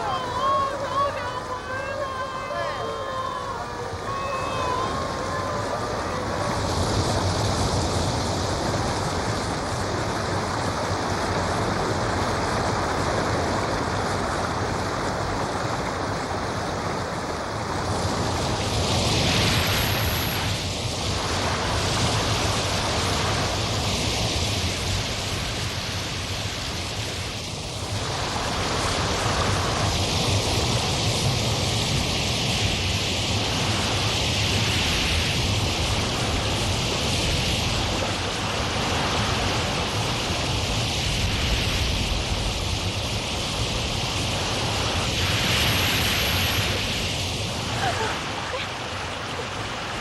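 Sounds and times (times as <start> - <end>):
sea waves and surf rushing: 0.0 - 50.0
wind: 0.0 - 50.0.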